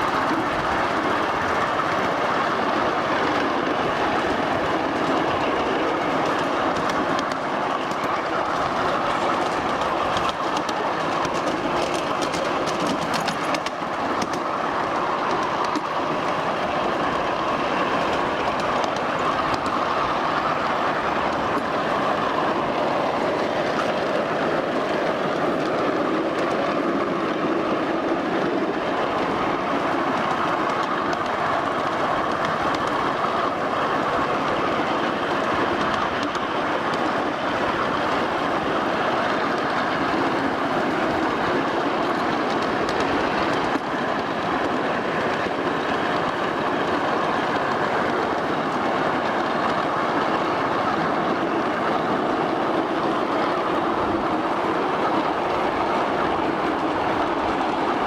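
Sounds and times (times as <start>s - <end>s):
rail joint clicks: 0.0s - 58.0s
wheels rumbling on rail: 0.0s - 58.0s.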